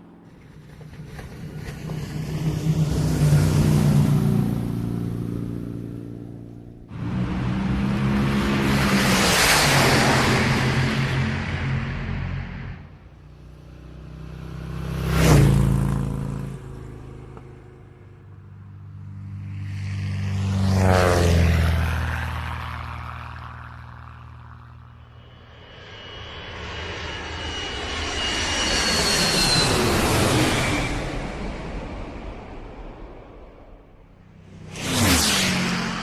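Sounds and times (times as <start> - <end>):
vehicles passing by: 0.0 - 26.1, 28.8 - 36.0.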